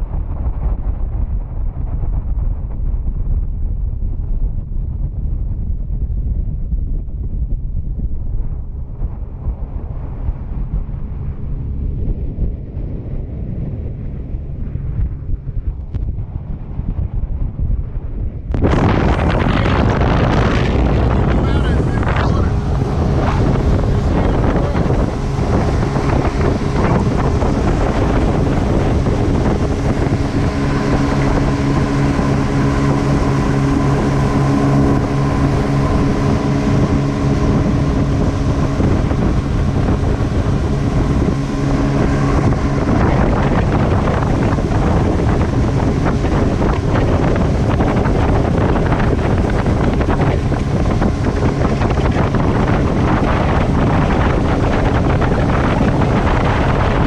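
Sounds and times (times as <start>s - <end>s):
wind noise on microphone: 0.0s - 57.0s
outboard engines droning: 8.1s - 57.0s.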